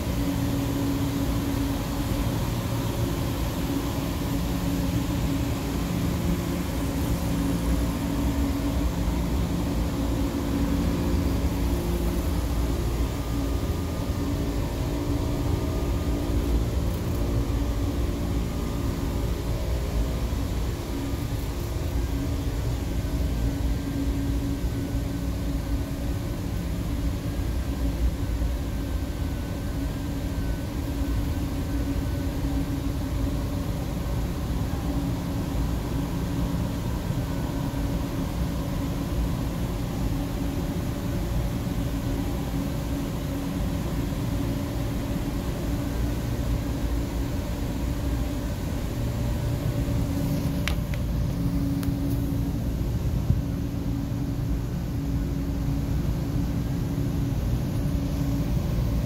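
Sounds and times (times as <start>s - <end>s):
machinery humming: 0.0s - 59.0s.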